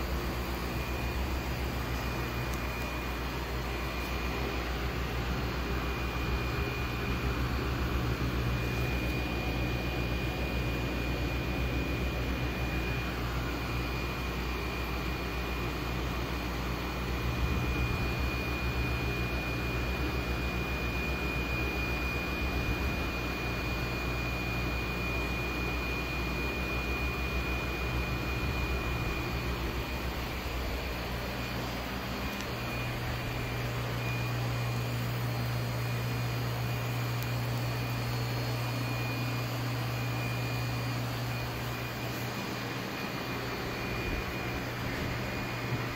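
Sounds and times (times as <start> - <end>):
aquarium pumps humming: 0.0 - 45.9
faint high whine: 0.0 - 45.9.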